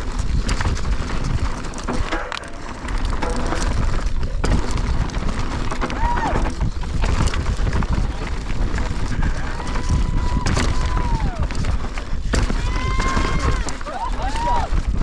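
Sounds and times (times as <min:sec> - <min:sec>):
bike rattling: 0:00.0 - 0:15.0
knocks over bumps: 0:00.0 - 0:15.0
tyres on dirt: 0:00.0 - 0:15.0
wind buffeting microphone: 0:02.8 - 0:15.0.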